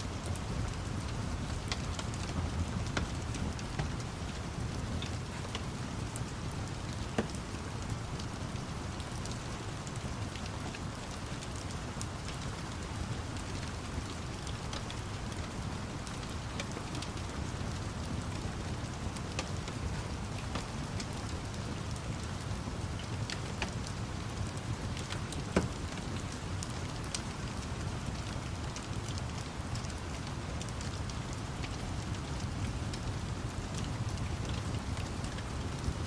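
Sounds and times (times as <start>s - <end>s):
steady rain: 0.0s - 36.0s
wood fire crackling: 0.0s - 36.0s.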